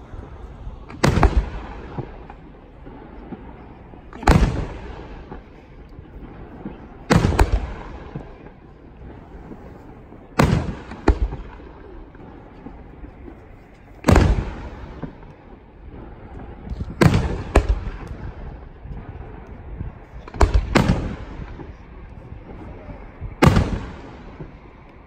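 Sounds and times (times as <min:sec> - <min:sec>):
fireworks bursting with echo: 0:00.0 - 0:25.0.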